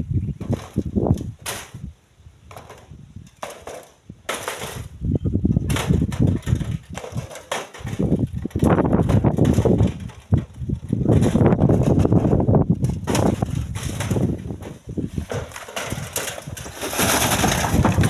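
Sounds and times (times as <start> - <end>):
stones thrown into truck bed: 0.4 - 1.9, 2.5 - 4.9, 5.6 - 18.0.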